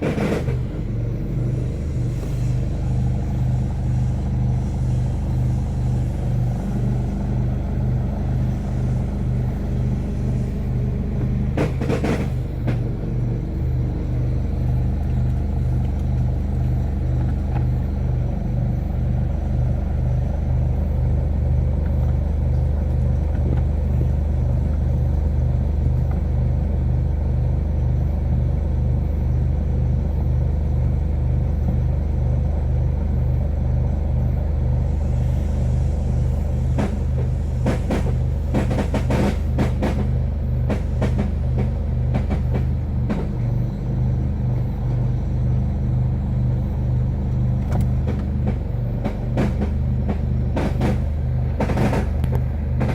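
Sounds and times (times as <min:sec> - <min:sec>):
car engine idling: 0:00.0 - 0:26.5, 0:34.1 - 0:52.9.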